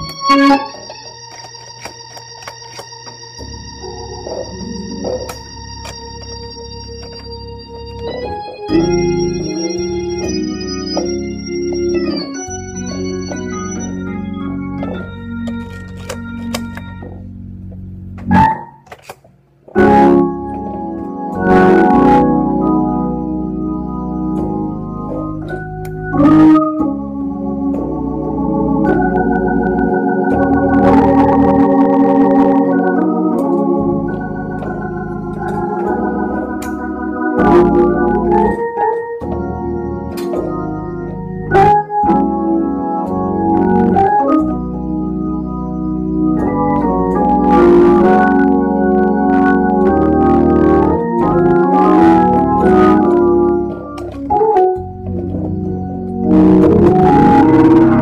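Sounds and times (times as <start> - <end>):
organ keyboard chords: 0.0 - 58.0.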